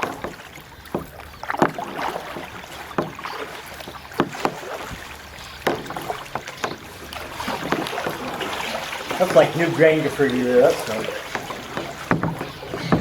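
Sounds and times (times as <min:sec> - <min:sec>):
kayak paddle strokes splashing: 0:00.0 - 0:13.0
water dripping: 0:00.0 - 0:13.0.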